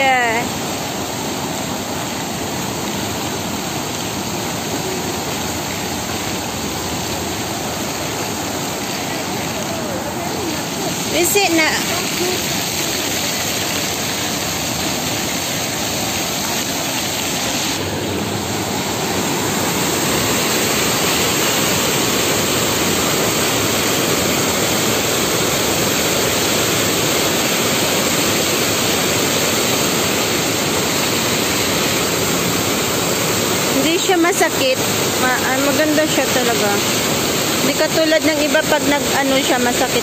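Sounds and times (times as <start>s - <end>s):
fountain jets splashing: 0.0s - 40.0s.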